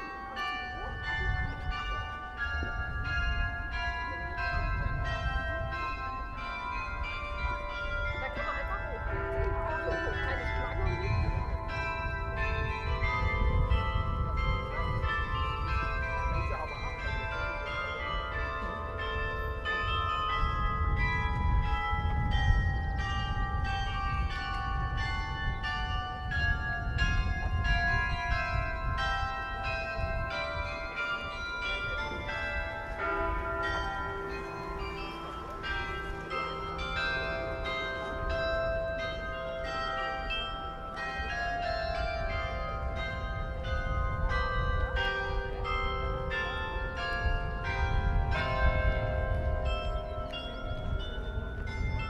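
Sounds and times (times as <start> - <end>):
church bells pealing: 0.0 - 52.0.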